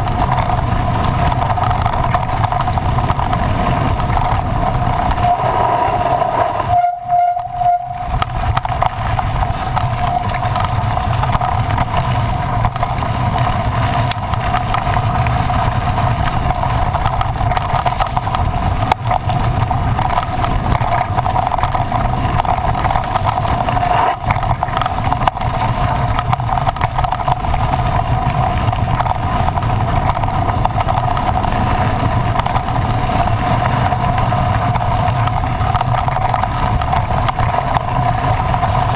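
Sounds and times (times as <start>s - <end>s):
engine running with whine: 0.0s - 38.9s.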